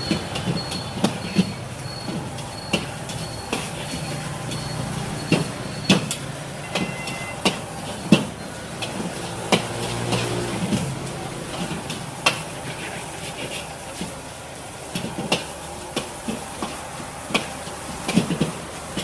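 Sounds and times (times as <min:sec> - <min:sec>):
food sizzling in a pan: 0:01.6 - 0:19.0.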